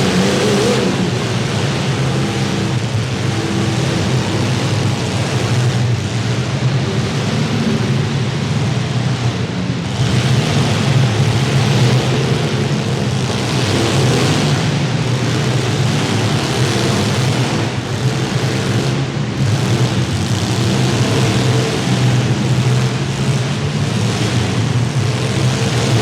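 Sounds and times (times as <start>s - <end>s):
car engines running hard: 0.0s - 26.0s.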